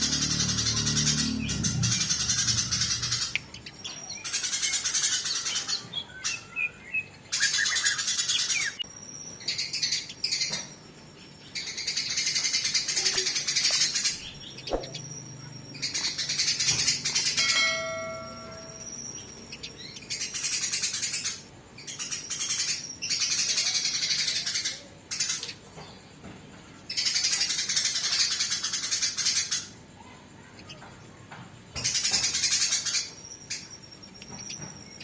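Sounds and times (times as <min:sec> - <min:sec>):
sparrows chirping rapidly: 0:00.0 - 0:26.1, 0:26.8 - 0:35.0.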